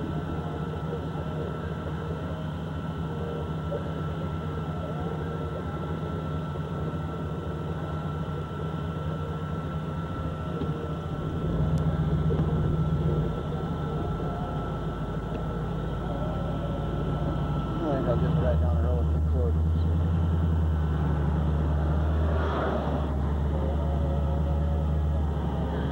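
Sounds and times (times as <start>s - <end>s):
high-pitched whine: 0.0s - 25.9s
vehicle engine low rumble: 0.0s - 25.9s.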